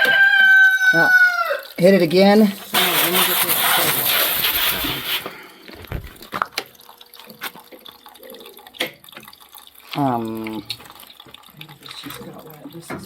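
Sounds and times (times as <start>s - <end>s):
water rushing into drum: 0.0s - 13.0s.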